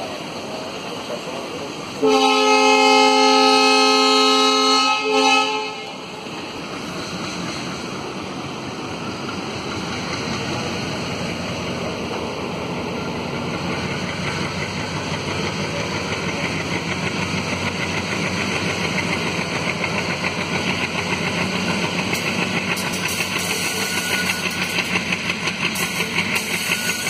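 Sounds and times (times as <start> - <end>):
diesel locomotive engine working hard: 0.0 - 27.0.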